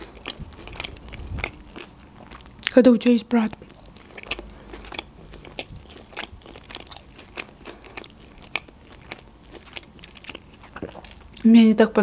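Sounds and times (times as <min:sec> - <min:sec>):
person chewing sushi: 0:00.0 - 0:11.4.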